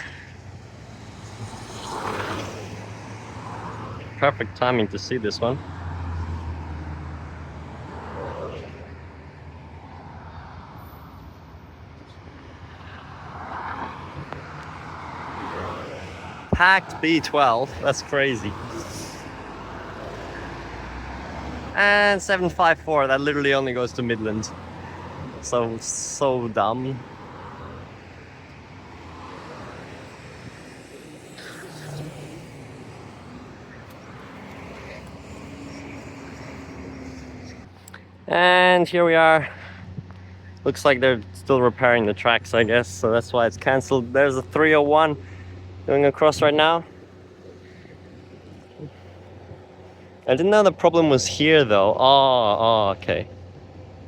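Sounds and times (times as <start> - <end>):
low engine hum: 0.0 - 38.8, 39.5 - 54.0
road traffic passing: 0.0 - 54.0.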